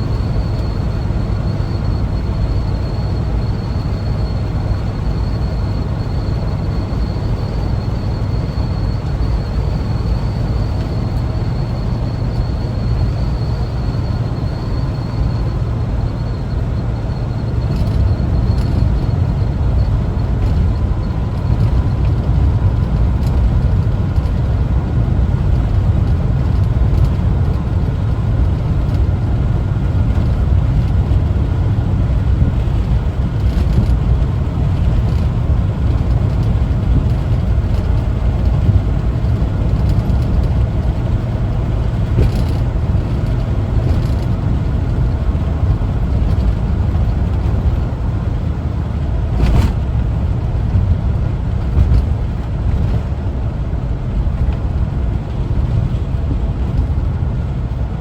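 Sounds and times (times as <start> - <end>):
van engine and road rumble: 0.0 - 58.0.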